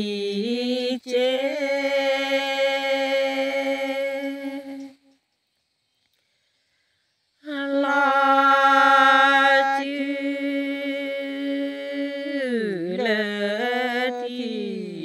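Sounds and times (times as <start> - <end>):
person chanting unaccompanied: 0.0 - 5.1, 7.4 - 15.0.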